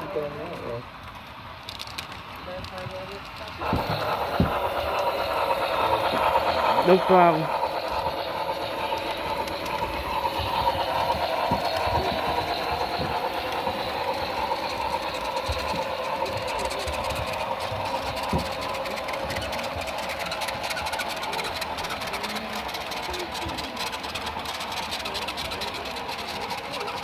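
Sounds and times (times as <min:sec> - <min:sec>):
model train running on track: 0:00.0 - 0:27.0.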